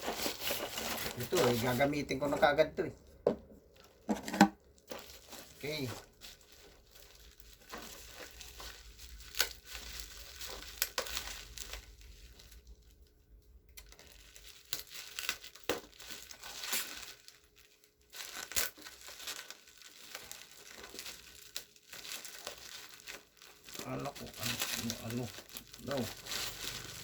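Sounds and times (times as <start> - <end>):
packaging rustling and crinkling: 0.0 - 13.2, 13.8 - 27.0
packaging tearing: 3.8 - 12.6, 13.8 - 27.0.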